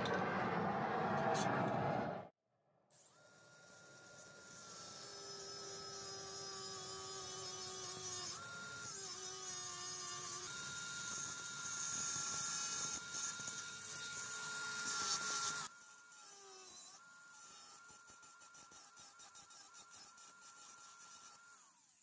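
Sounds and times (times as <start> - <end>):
angle grinder cutting steel rod: 3.0 - 22.0.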